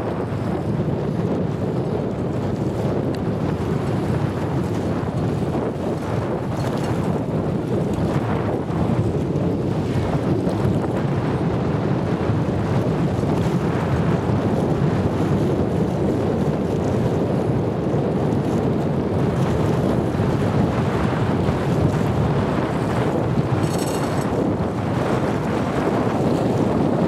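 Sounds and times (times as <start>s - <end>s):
wind buffeting the microphone: 0.0s - 27.0s.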